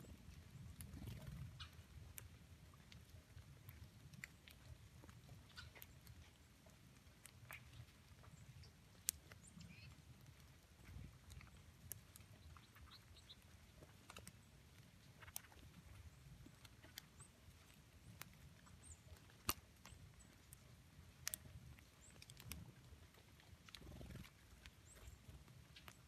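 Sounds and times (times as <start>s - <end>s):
faint ticks and light pattering: 0.0s - 26.0s.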